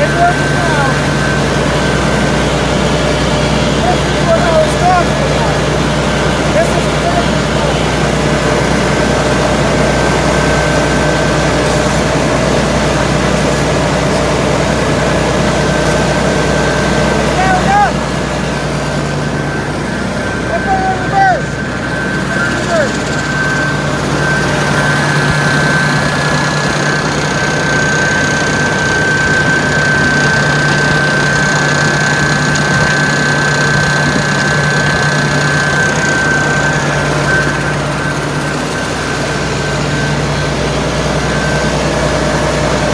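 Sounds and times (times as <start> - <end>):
engine running steadily: 0.0 - 42.9
faint steady whine: 0.0 - 42.9.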